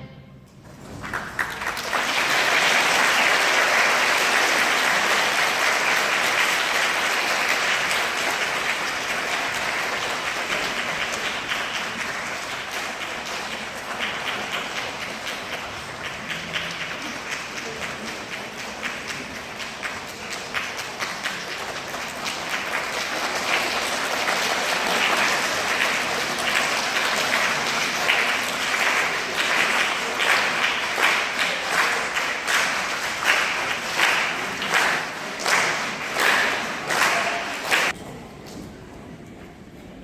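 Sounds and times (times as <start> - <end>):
audience applause: 0.8 - 38.0
rhythmic unison clapping: 1.0 - 38.0.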